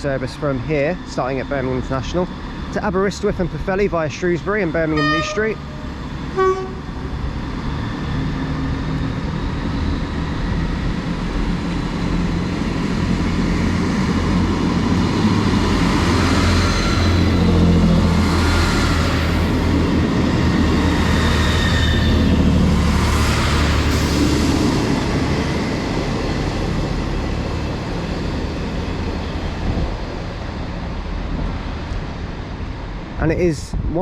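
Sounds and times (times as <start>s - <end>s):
diesel train engines throbbing: 0.0s - 33.9s.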